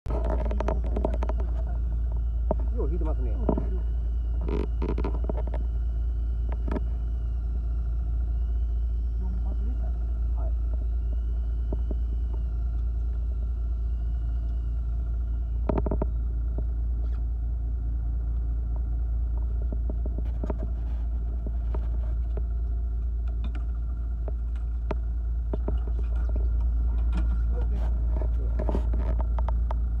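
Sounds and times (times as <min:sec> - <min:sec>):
boat engine low rumble: 0:00.0 - 0:30.0.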